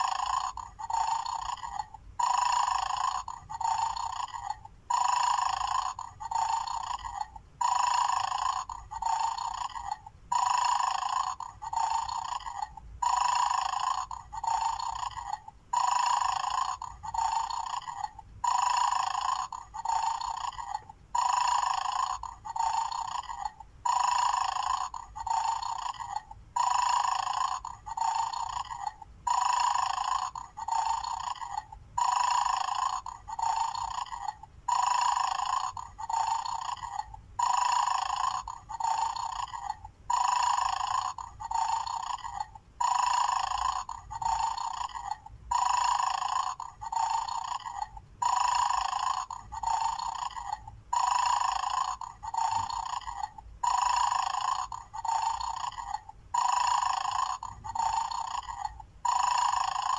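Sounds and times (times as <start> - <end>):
toy snoring through speaker: 0.0 - 59.9.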